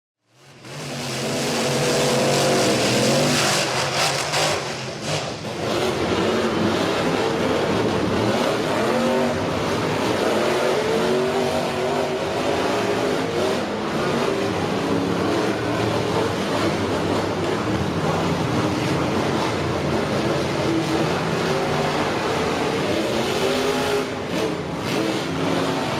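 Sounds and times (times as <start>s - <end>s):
truck engines revving: 0.3s - 25.9s.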